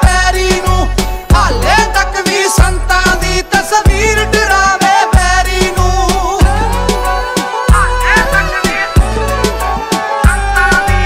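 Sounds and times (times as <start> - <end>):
song with beat and heavy bass: 0.0 - 11.0.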